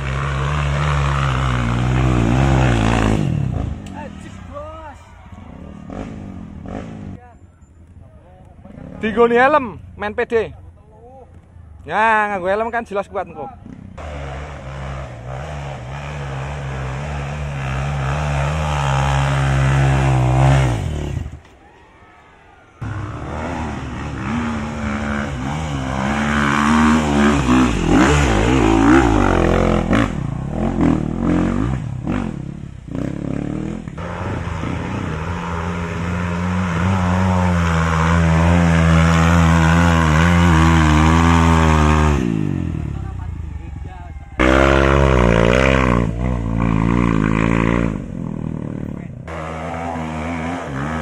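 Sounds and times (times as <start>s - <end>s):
dirt bike engines revving: 0.0s - 51.0s.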